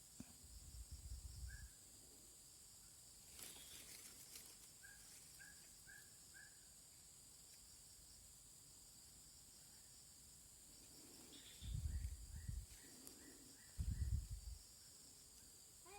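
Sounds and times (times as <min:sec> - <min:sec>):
insects droning: 0:00.0 - 0:15.9.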